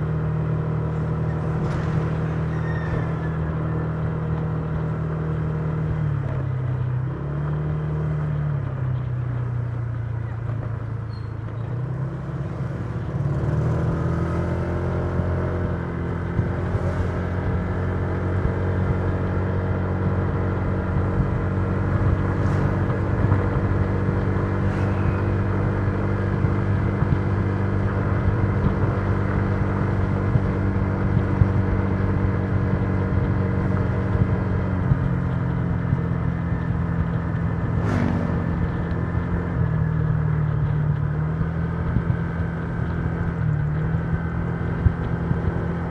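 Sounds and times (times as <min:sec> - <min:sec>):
scooter engine cruising: 0:00.0 - 0:45.9.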